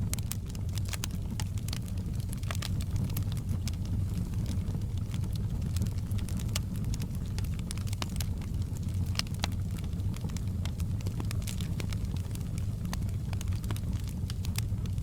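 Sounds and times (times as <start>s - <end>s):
fire crackles and pops: 0.0s - 15.0s
low roar of flames: 0.0s - 15.0s.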